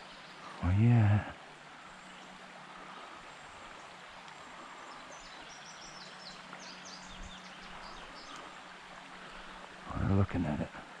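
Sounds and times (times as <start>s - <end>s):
flowing creek: 0.0s - 11.0s.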